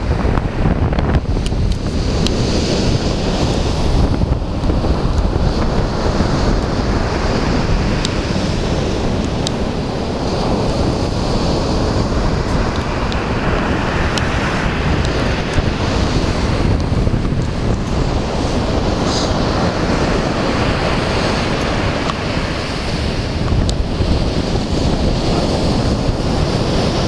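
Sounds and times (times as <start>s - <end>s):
waves breaking on shore: 0.0s - 27.0s
wind buffeting microphone: 0.0s - 27.0s.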